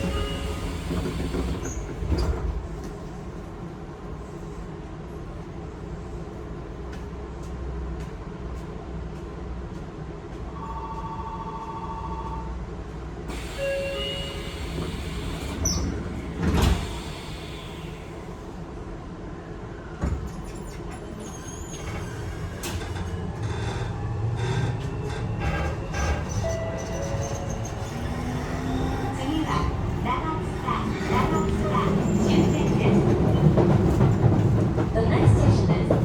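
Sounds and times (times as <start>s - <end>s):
train rumble: 0.0s - 36.0s.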